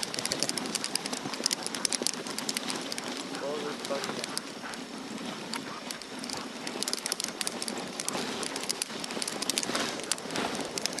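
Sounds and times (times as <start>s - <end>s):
quick ticks and crackles: 0.0s - 11.0s
sled runners on snow: 0.0s - 11.0s.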